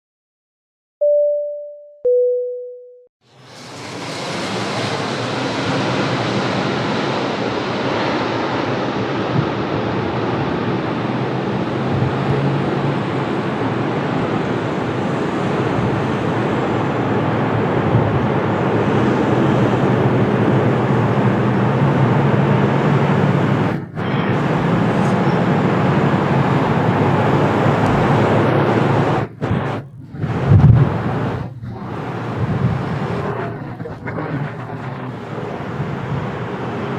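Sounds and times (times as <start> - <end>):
jet engine noise: 3.2 - 36.9
strong gusty wind: 3.3 - 36.9.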